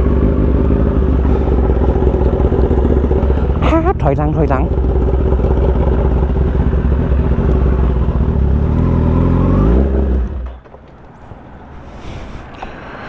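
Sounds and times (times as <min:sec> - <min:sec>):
motorcycle engine running at low revs: 0:00.0 - 0:10.6.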